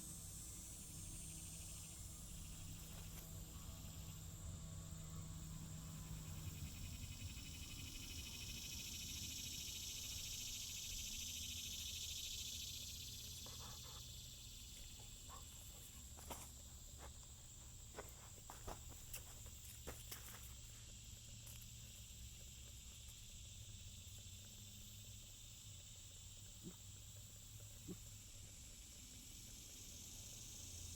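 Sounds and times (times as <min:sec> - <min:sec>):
crickets trilling: 0:00.0 - 0:30.9.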